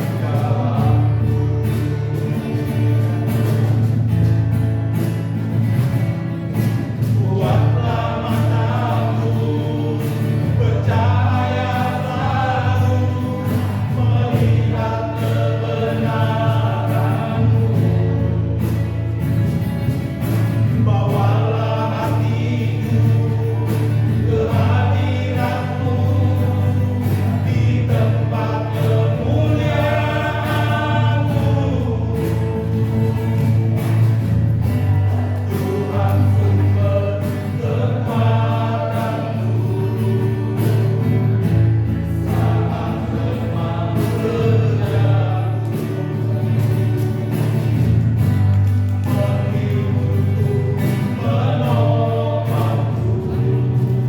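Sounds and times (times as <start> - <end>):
gospel choir singing: 0.0 - 4.2, 5.1 - 54.0.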